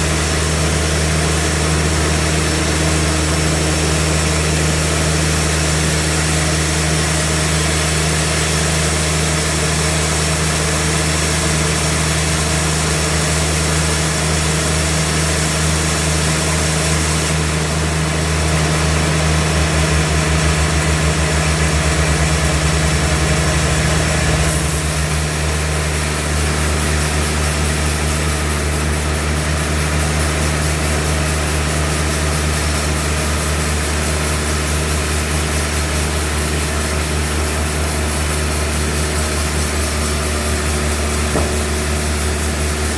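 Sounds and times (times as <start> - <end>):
sawmill machinery humming: 0.0 - 42.9.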